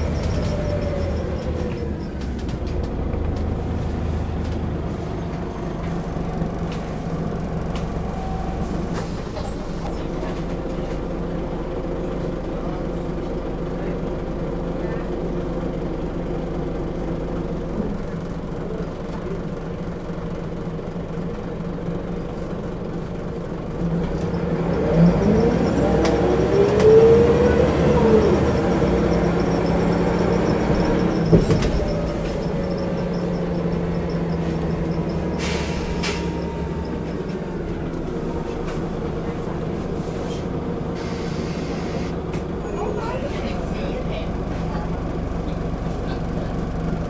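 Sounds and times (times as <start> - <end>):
bus engine droning: 0.0 - 47.0.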